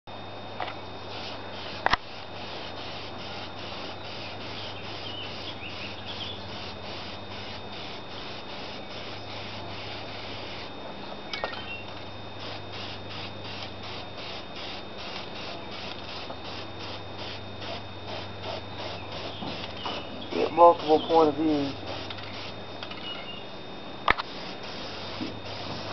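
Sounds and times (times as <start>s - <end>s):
low steady hum: 0.1s - 25.9s
hand sanding sheet metal: 1.2s - 10.7s, 12.4s - 22.5s, 24.2s - 25.9s.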